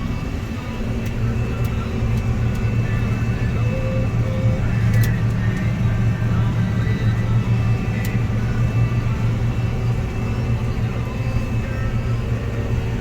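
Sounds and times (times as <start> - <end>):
farm machine engine humming: 0.0 - 13.0.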